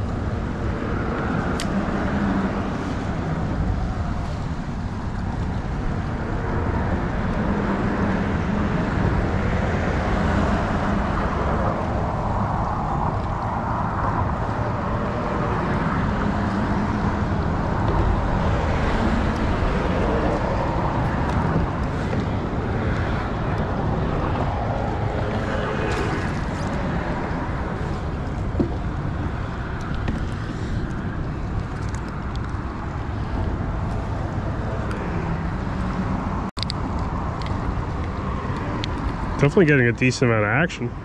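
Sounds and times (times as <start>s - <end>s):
wind buffeting microphone: 0.0s - 40.3s.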